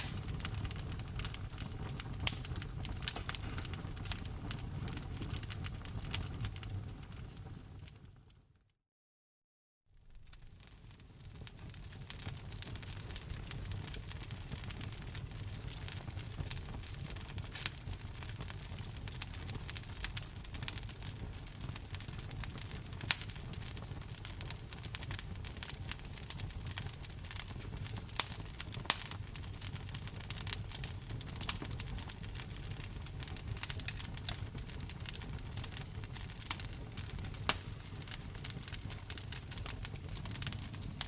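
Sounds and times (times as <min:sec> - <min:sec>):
wood fire crackling and popping: 0:00.0 - 0:08.4, 0:10.0 - 0:41.0.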